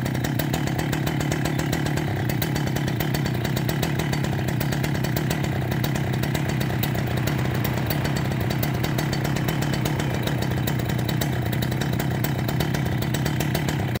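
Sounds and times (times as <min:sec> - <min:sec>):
chainsaw running steadily: 0:00.0 - 0:14.0.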